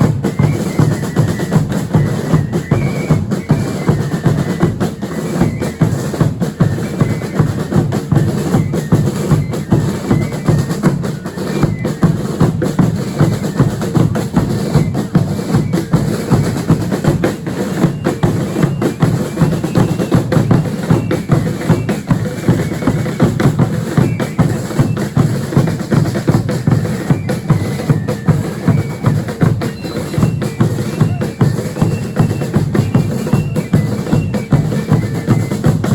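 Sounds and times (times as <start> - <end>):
snare drums beating: 0.0 - 35.9.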